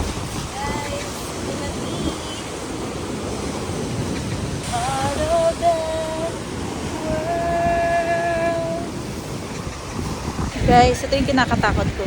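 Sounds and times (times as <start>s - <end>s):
strong wind on microphone: 0.0s - 12.0s
surf crashing on rocky shore: 0.0s - 12.0s.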